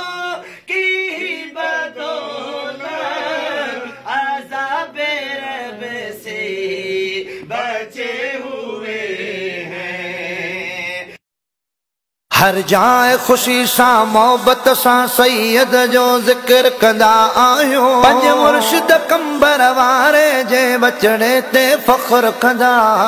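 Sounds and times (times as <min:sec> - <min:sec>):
voices singing devotional song: 0:00.0 - 0:11.1, 0:12.4 - 0:23.0.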